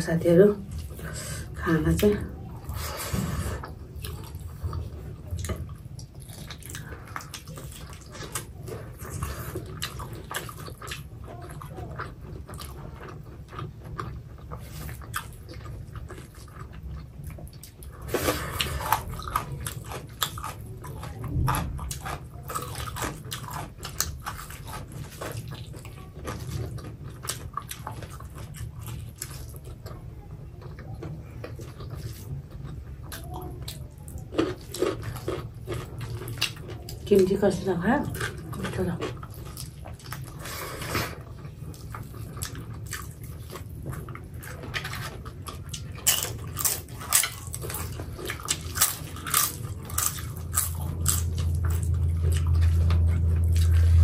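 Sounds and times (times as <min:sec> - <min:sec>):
low steady hum: 0:00.0 - 0:54.0
people chewing with wet smacks: 0:00.0 - 0:54.0.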